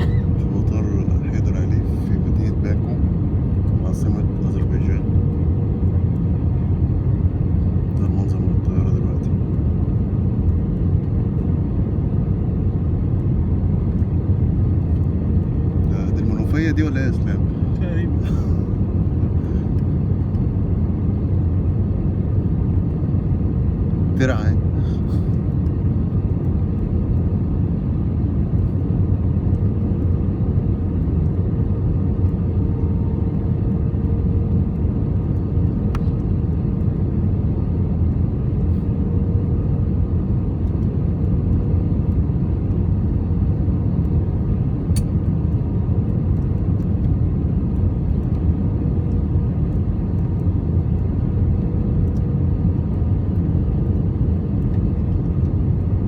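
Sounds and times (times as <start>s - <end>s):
jet engine rumble and rushing air: 0.0s - 56.0s.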